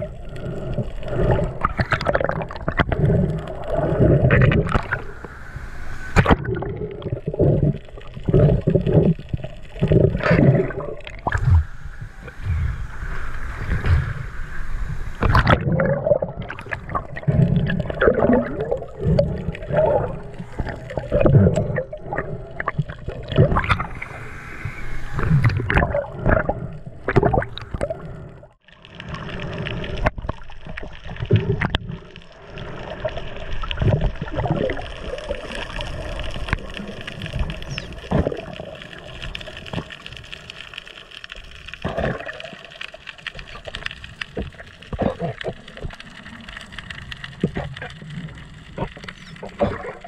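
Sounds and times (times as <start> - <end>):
bubbles gurgling underwater: 0.0 - 40.8, 41.6 - 50.0
water moving: 0.0 - 50.0.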